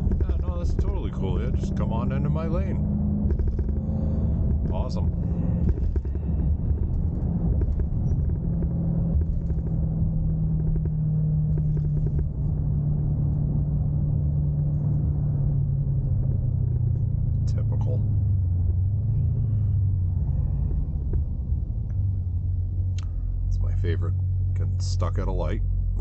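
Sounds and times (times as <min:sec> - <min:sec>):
engine running at low revs: 0:00.0 - 0:26.0.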